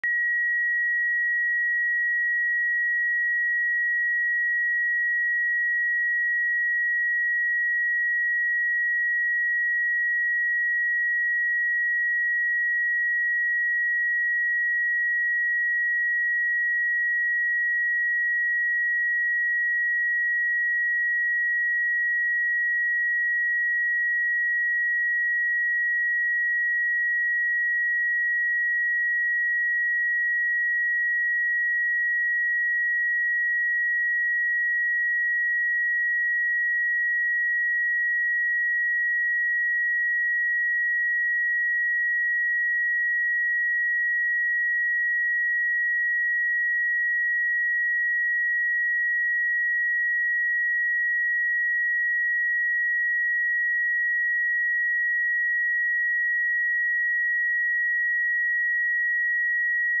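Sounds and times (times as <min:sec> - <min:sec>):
high-pitched sine test tone: 0:00.0 - 1:00.0.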